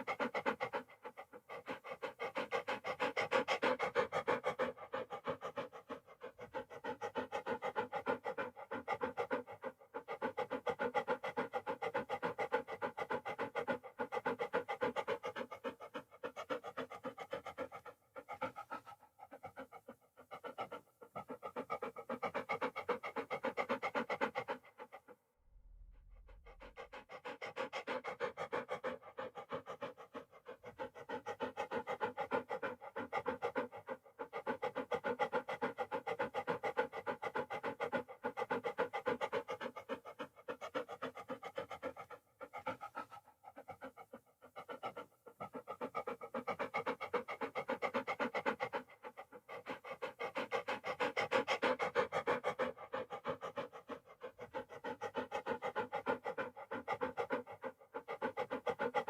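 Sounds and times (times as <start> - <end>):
dog panting: 0.0 - 25.2, 26.2 - 59.0.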